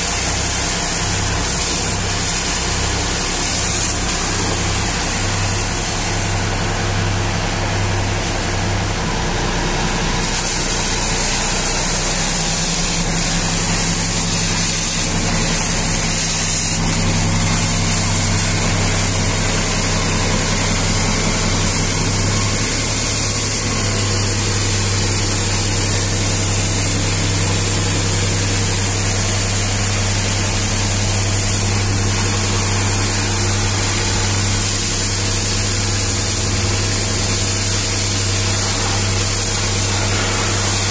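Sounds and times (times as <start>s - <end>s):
engine humming: 0.0s - 40.9s
water jet hissing on tyre: 0.0s - 40.9s.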